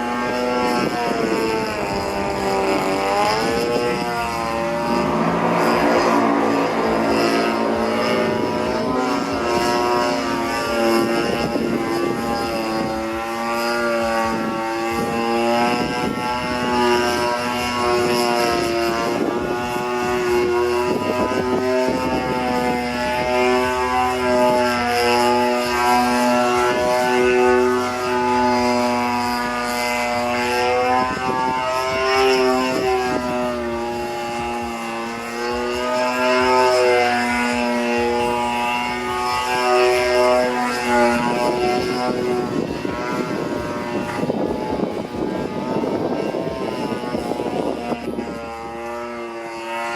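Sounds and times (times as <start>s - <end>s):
model airplane engine buzzing: 0.0s - 49.9s.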